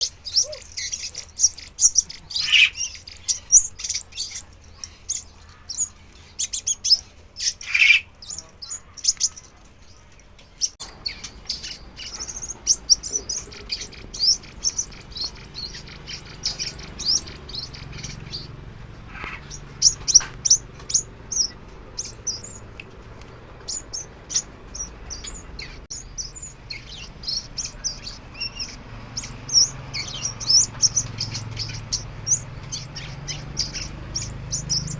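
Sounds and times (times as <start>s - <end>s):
sunbird singing: 0.0s - 34.9s.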